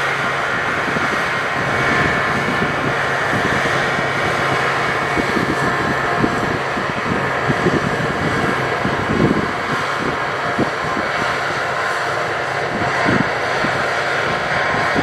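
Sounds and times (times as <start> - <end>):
combine harvester running: 0.0 - 15.0
wind on microphone: 0.0 - 15.0.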